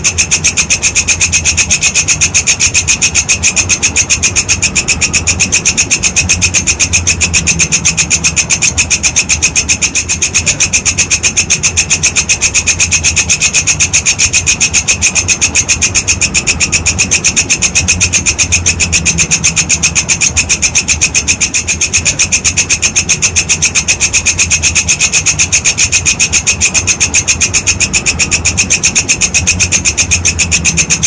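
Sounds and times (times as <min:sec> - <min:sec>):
grasshopper rasping chirps: 0:00.0 - 0:31.0
low steady hum: 0:00.0 - 0:31.0.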